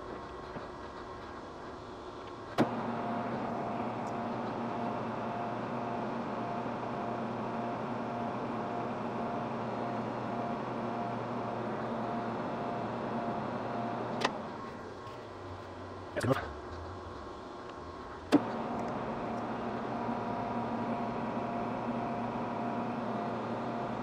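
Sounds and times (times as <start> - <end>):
lathe motor hum with whine: 0.0 - 24.0.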